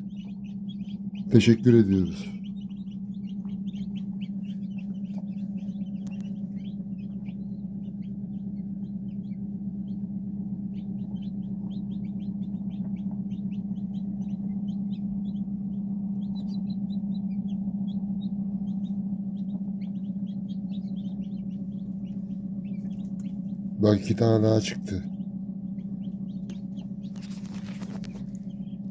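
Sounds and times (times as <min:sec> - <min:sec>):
chicks peeping: 0:00.0 - 0:28.9
low hum: 0:00.0 - 0:28.9.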